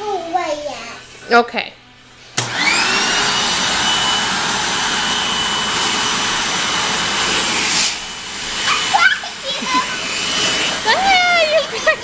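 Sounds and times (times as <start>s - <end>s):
vacuum cleaner motor whine: 2.4s - 12.0s.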